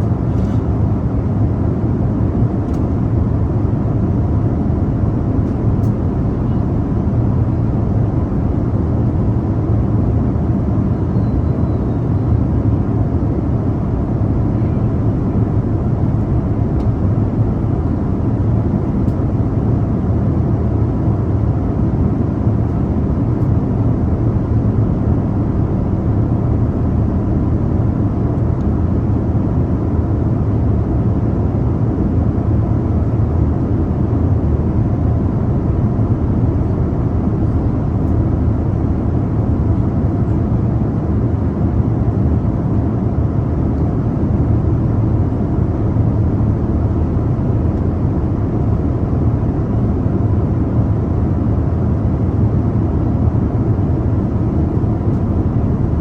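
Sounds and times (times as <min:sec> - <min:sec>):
airliner engine rumble: 0:00.0 - 0:56.0
faint steady hum: 0:00.0 - 0:56.0.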